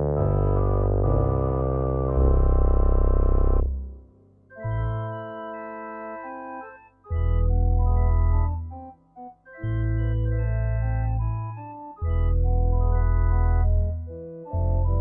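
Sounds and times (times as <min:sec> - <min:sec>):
electronic organ playing carol: 0:00.2 - 0:03.7, 0:04.5 - 0:15.0.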